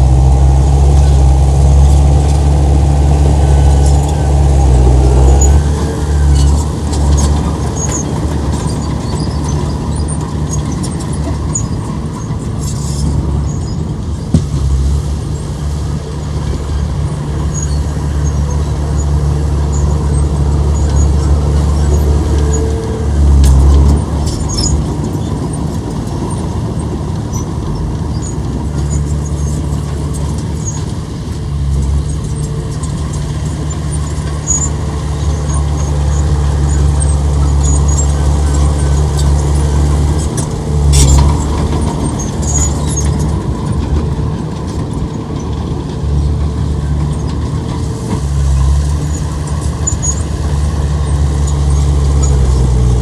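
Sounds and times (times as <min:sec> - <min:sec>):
heavy diesel machinery droning: 0:00.0 - 0:53.0.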